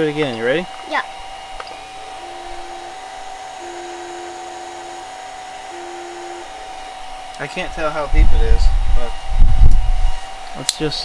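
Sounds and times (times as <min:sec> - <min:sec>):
cooling fan humming: 0:00.0 - 0:11.0
stepper motors whining: 0:00.0 - 0:11.0.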